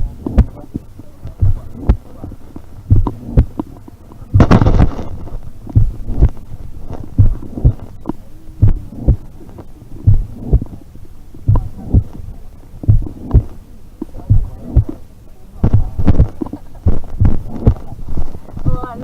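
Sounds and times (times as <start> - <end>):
heartbeat thumps: 0.0 - 3.7, 4.3 - 8.0, 8.6 - 9.3, 10.0 - 10.8, 11.4 - 15.0, 15.6 - 18.8
faint heart murmur: 0.0 - 15.0, 15.6 - 19.0.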